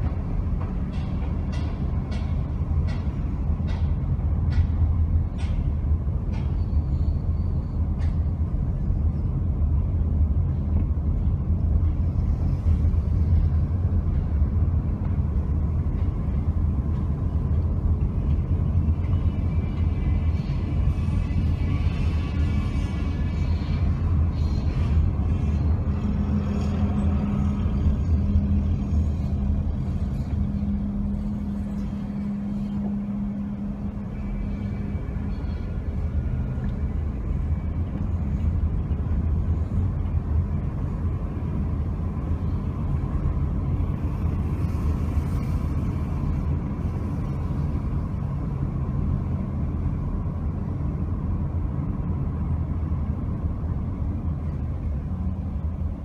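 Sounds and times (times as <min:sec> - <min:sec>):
engine and tyres rumbling: 0:00.0 - 0:56.0
steady hum: 0:00.0 - 0:56.0.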